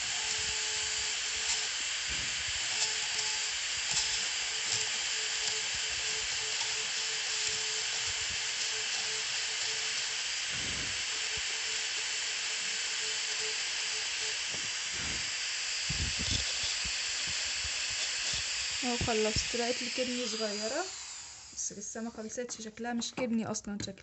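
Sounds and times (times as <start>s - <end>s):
dental drill hissing: 0.0s - 22.0s.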